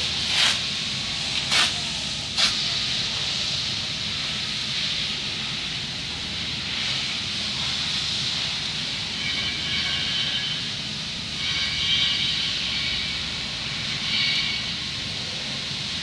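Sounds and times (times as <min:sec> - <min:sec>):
ventilation airflow hiss: 0:00.0 - 0:16.0.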